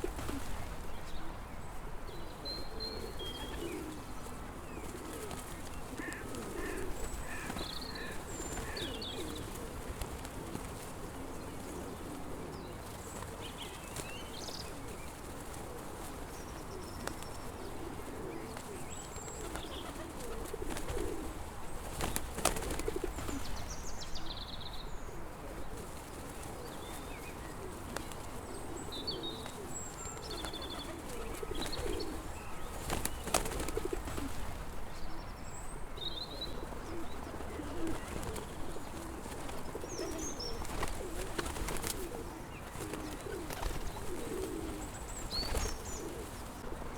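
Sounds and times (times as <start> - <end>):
small birds chirping: 0.0 - 46.7
pigeons cooing: 2.2 - 14.0, 14.6 - 46.9.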